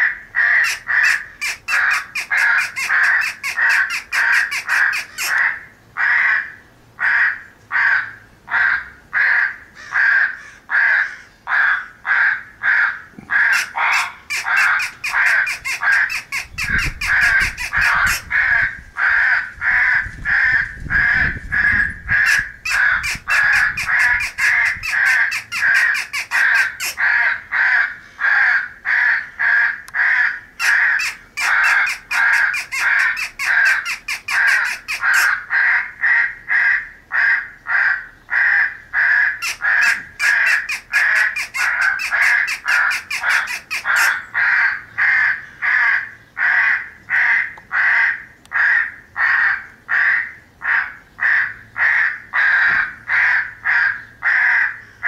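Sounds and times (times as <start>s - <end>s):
crows cawing: 0.0s - 55.0s.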